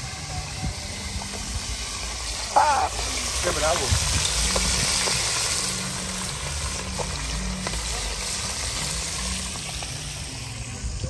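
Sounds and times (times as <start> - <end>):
fish sizzling on grill: 0.0 - 11.0
music: 0.0 - 11.0.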